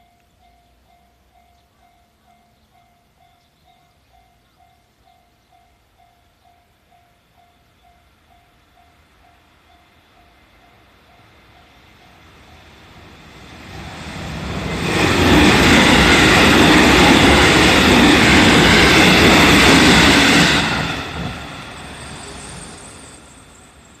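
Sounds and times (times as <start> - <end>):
electric train rail noise: 0.0 - 24.0.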